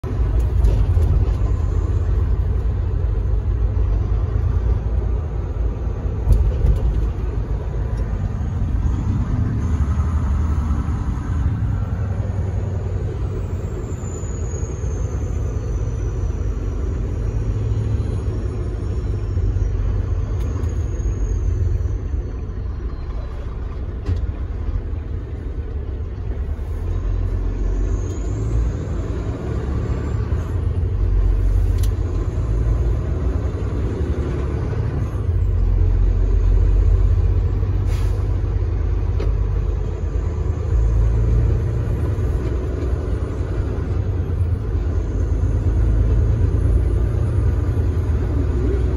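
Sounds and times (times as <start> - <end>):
truck diesel engine rumble: 0.0 - 48.9
tyres on road: 0.0 - 48.9.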